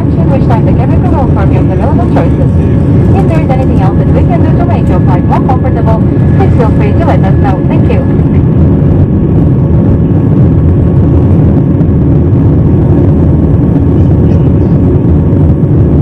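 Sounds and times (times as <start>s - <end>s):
faint jet engine whine: 0.0s - 16.0s
jet engine low rumble: 0.0s - 16.0s.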